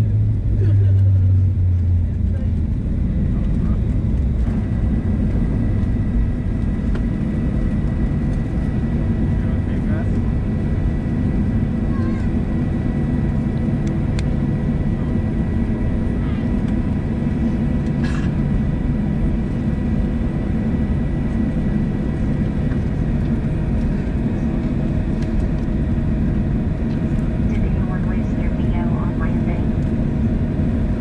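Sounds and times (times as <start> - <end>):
aircraft cabin rumble: 0.0 - 31.0
jet engine whine: 0.0 - 31.0.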